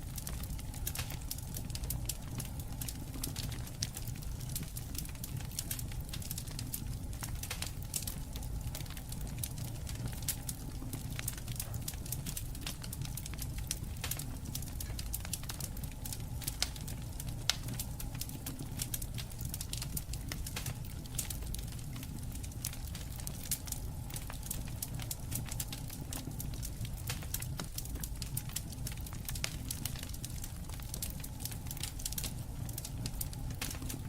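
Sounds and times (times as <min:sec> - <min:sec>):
low rumble of burning: 0:00.0 - 0:34.0
wood fire crackling and popping: 0:00.0 - 0:34.0.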